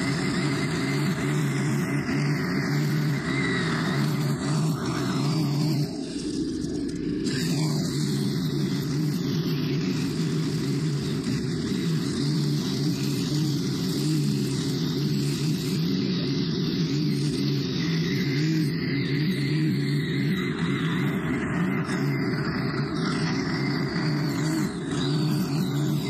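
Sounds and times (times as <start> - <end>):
string trimmer cutting grass: 0.0 - 26.0.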